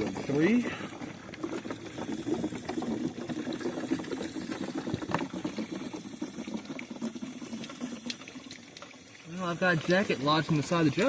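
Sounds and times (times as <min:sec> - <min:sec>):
water gurgling and splashing: 0:00.0 - 0:11.0.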